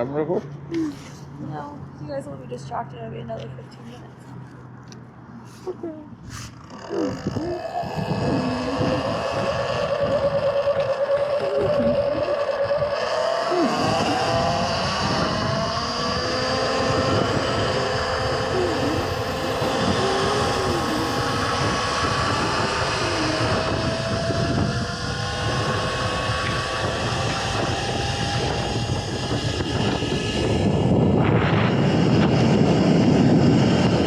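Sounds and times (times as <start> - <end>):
wind rumble on microphone: 0.0 - 34.0
electric dirt bike motor whining: 6.2 - 34.0.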